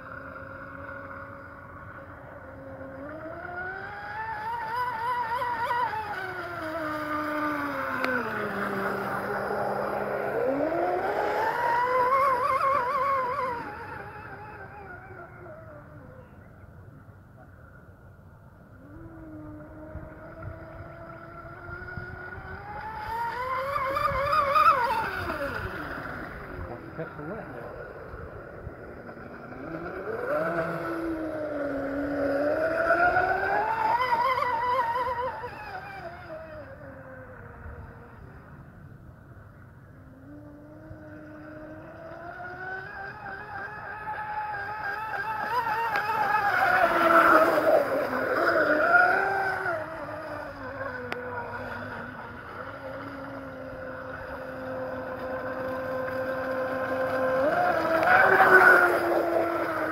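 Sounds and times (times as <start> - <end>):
electric motor whining: 0.0 - 16.5, 18.6 - 38.9, 39.5 - 59.9.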